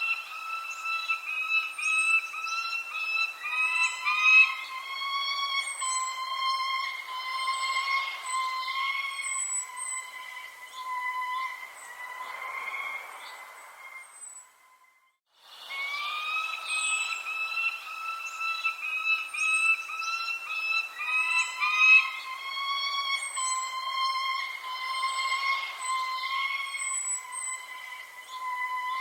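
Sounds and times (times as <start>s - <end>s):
high bird chirps: 0.0s - 14.5s, 15.7s - 29.0s
bird whistling notes: 0.0s - 14.8s, 15.6s - 29.0s.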